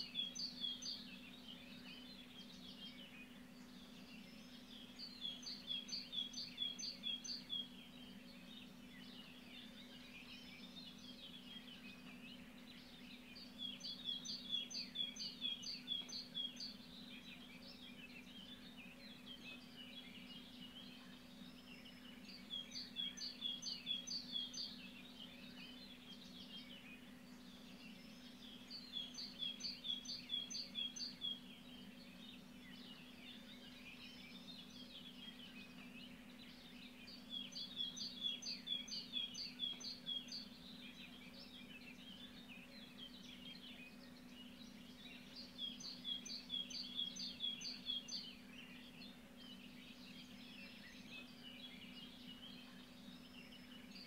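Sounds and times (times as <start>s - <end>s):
faint bird chirping: 0.0s - 54.0s
songbird singing repeated notes: 0.0s - 54.0s.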